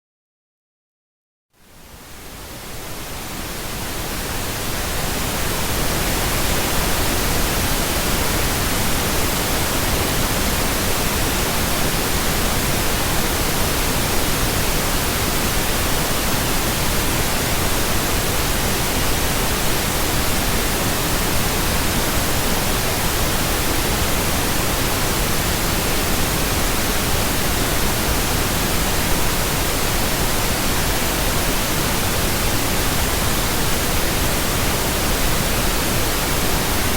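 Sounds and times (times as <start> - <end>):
pink noise hiss: 1.6 - 36.9.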